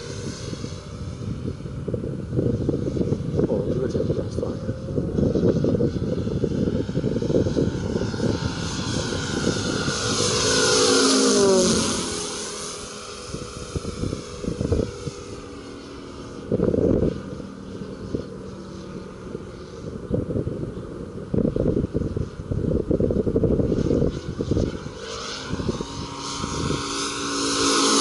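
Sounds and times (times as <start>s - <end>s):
model plane engine passing overhead: 0.0s - 28.0s
wind rumbling on microphone: 0.0s - 28.0s.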